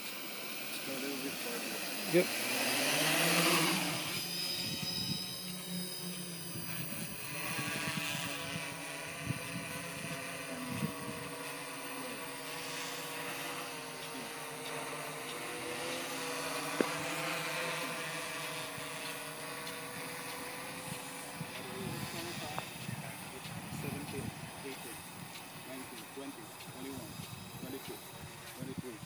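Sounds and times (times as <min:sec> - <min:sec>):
drone propellers droning: 0:00.0 - 0:29.0.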